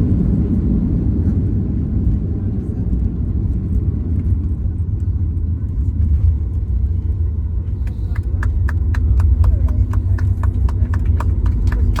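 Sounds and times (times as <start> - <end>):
jet engines idling rumble: 0.0 - 12.0.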